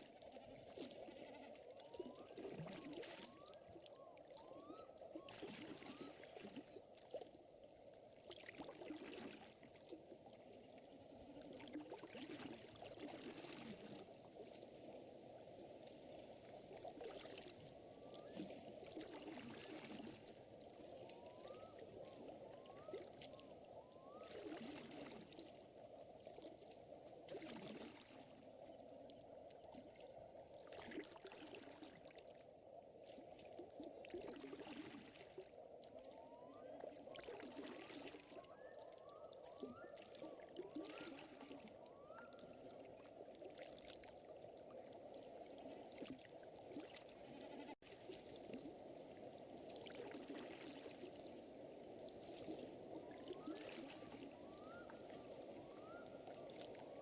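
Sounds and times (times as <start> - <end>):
water trickling and lapping: 0.0 - 57.0.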